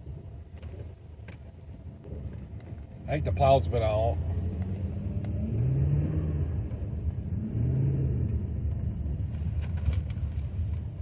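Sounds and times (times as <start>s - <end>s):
road rumble: 0.0s - 11.0s.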